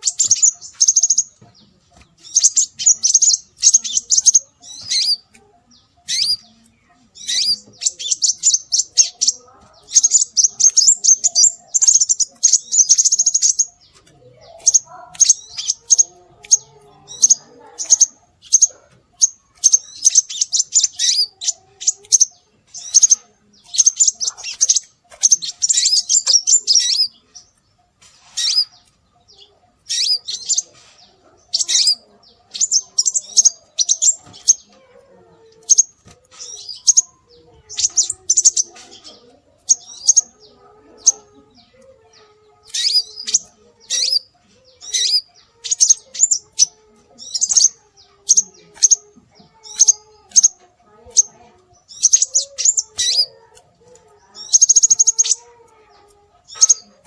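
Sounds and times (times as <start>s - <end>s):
high-pitched bird chirps: 0.0s - 57.0s.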